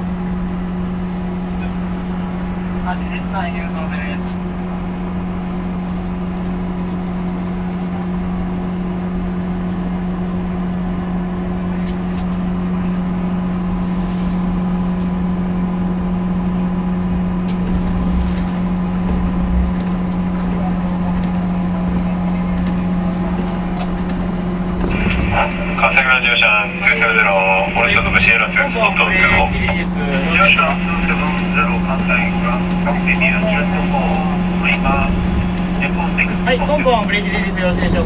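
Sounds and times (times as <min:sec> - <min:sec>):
tractor engine droning: 0:00.0 - 0:38.0.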